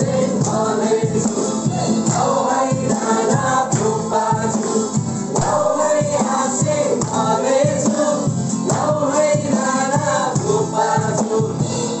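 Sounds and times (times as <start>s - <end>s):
group singing gospel song: 0.0s - 12.0s
music with steady beat: 0.0s - 12.0s.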